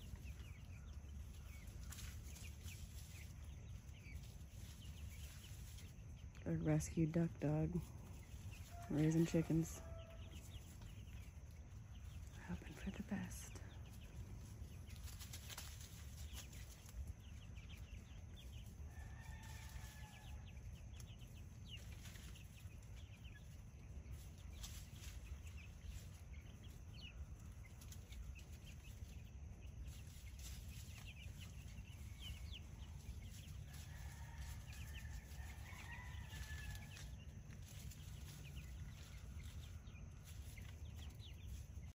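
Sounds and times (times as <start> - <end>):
faint low background hum: 0.0 - 41.9.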